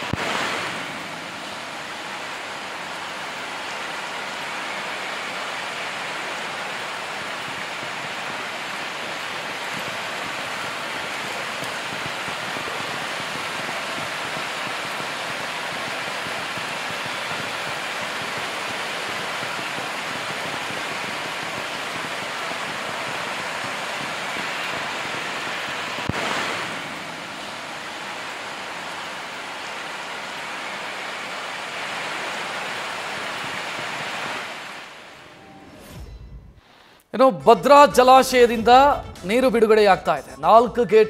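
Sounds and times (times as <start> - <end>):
floodwater rushing: 0.0 - 35.4.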